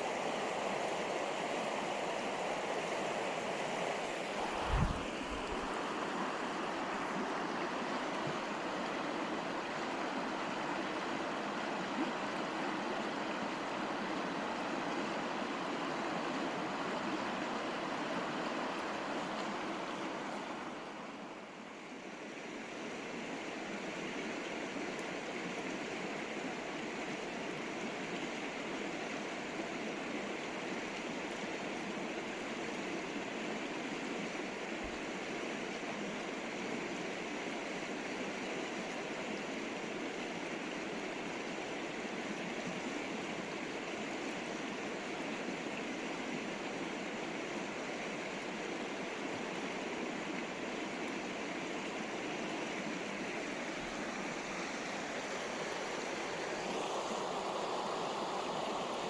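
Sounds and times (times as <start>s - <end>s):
river water rushing: 0.0s - 22.2s, 22.8s - 59.0s.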